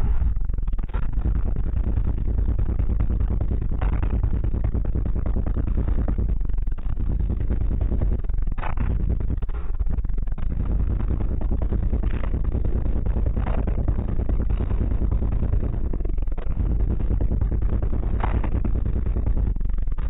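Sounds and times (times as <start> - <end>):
distorted subwoofer bass rumble: 0.0 - 20.0.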